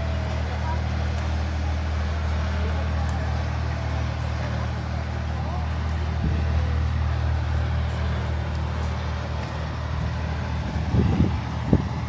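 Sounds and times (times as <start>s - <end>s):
engine running deep hum: 0.0s - 12.0s.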